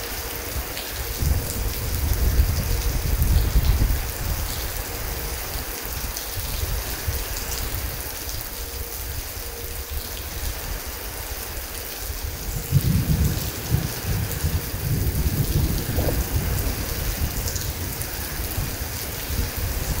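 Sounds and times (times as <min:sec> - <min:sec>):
low rumble of thunder: 0:00.0 - 0:11.0, 0:12.0 - 0:20.0
heavy rain: 0:00.0 - 0:20.0.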